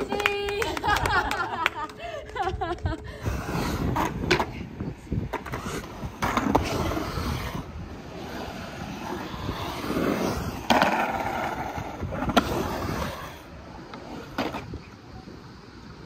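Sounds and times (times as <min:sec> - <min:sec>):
skateboard clacking: 0:00.0 - 0:15.1
skateboard wheels rolling on concrete: 0:00.0 - 0:16.0.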